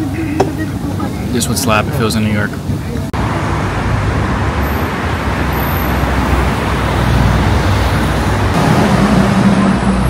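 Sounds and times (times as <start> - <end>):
road traffic noise: 0.0 - 10.0
vehicle engine hum: 0.0 - 10.0.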